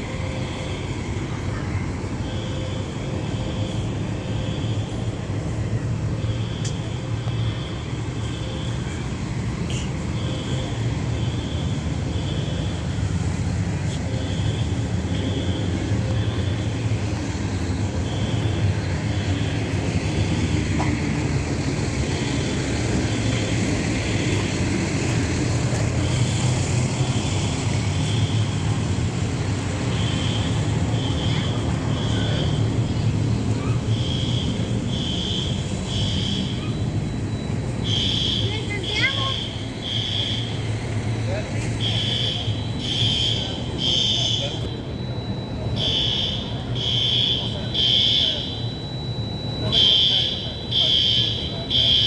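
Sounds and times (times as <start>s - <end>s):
fire alarm beeps: 0.0s - 52.0s.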